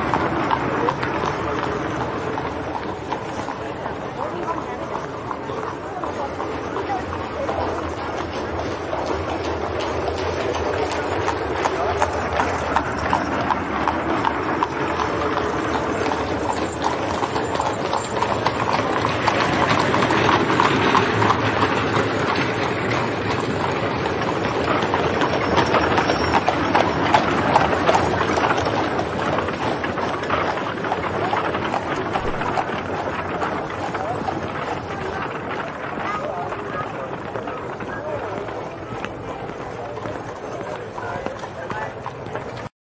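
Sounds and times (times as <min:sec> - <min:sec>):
horse hooves clip-clopping: 0:00.0 - 0:42.7.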